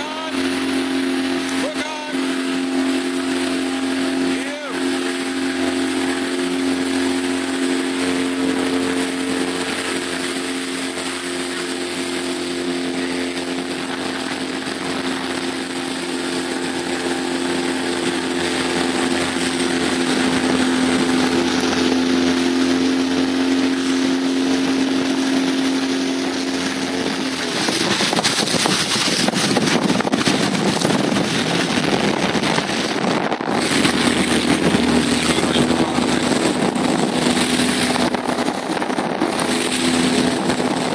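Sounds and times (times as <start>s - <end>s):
motorboat engine hum: 0.0s - 40.9s
water splashing: 0.0s - 40.9s
wind buffeting: 2.2s - 40.9s.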